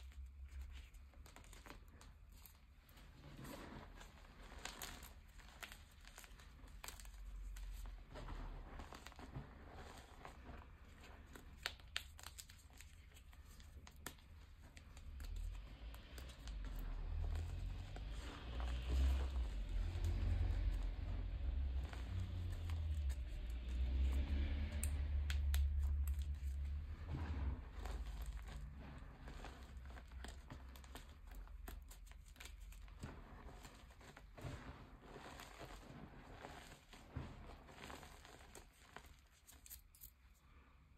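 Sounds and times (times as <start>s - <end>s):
hands crushing chalk: 0.0s - 40.1s.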